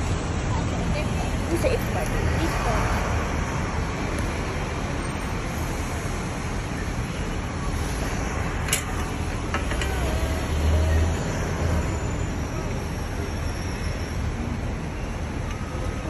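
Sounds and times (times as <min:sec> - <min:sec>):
rumble of buses and traffic: 0:00.0 - 0:16.0.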